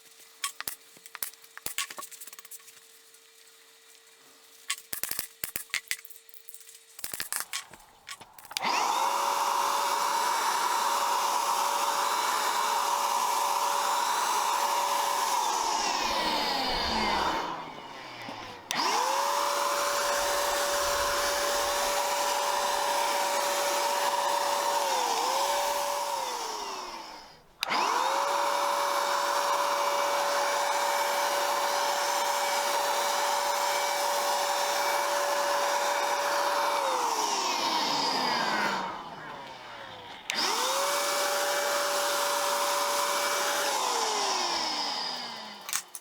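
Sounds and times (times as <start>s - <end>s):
power tool motor whining: 7.2s - 46.0s.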